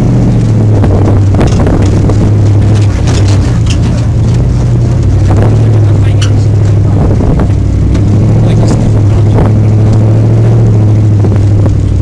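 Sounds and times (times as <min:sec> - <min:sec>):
vehicle knocks and rattles: 0:00.0 - 0:10.3
off-road vehicle engine running: 0:00.0 - 0:12.0.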